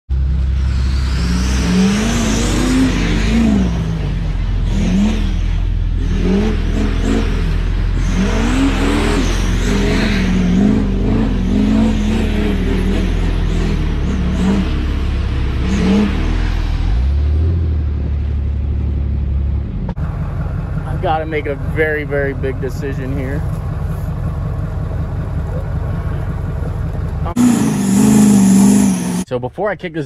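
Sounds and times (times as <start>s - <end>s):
diesel truck engine revving: 0.1s - 29.3s.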